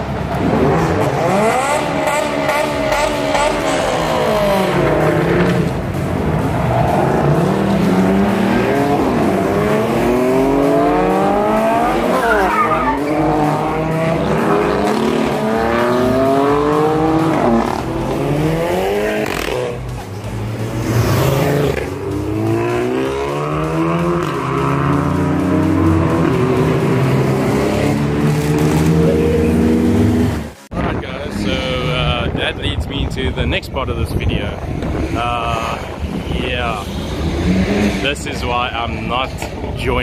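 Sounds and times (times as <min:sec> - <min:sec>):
car engine revving: 0:00.0 - 0:32.3, 0:34.6 - 0:40.0.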